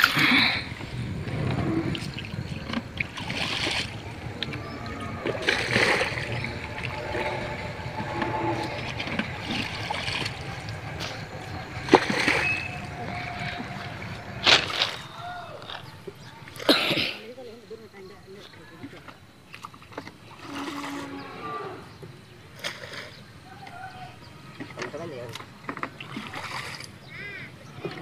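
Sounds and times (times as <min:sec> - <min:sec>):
muddy water splashing: 0:00.0 - 0:17.3, 0:22.4 - 0:28.0.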